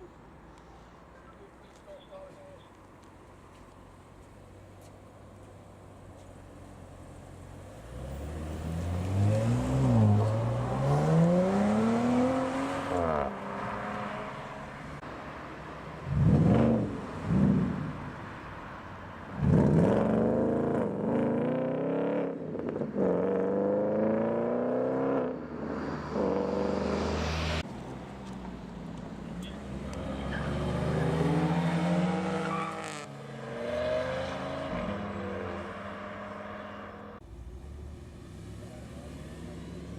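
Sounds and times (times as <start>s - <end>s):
car engines accelerating: 5.9s - 39.9s.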